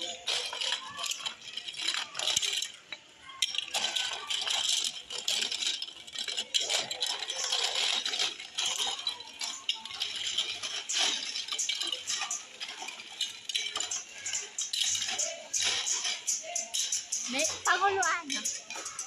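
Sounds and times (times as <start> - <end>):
plastic toy blocks clattering: 0.0 - 19.0.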